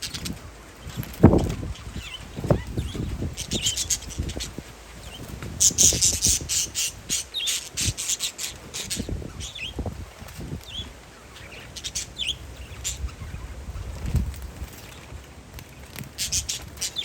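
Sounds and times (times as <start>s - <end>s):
parakeets chirping: 0.0s - 17.0s
wind rumble on microphone: 0.0s - 17.0s.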